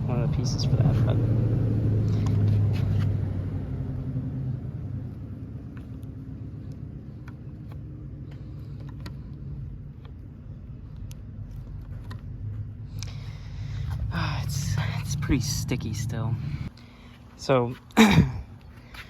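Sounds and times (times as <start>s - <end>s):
low motor rumble: 0.0s - 17.4s.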